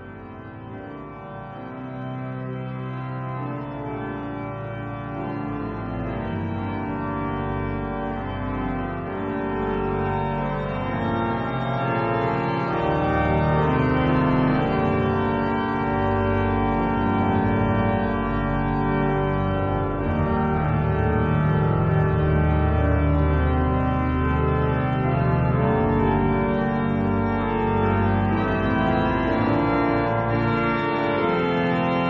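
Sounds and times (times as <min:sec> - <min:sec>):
organ playing sustained chords: 0:00.0 - 0:32.0.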